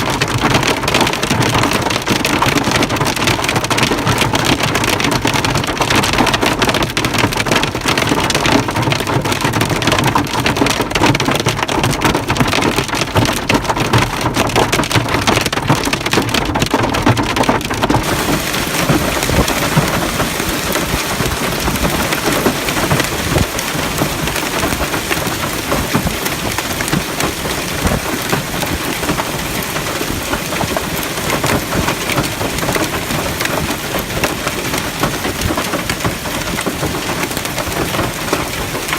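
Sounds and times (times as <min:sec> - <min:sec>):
heavy rain on hard surfaces: 0:00.0 - 0:38.9.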